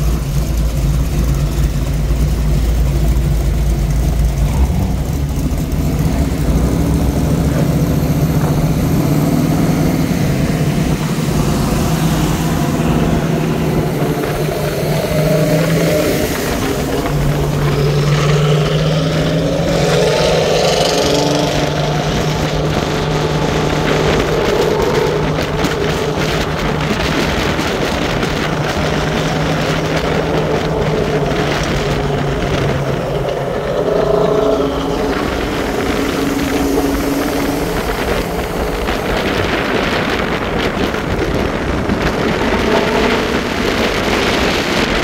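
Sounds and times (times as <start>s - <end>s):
car engines in traffic: 0.0s - 45.0s
deep engine rumble: 0.0s - 45.0s.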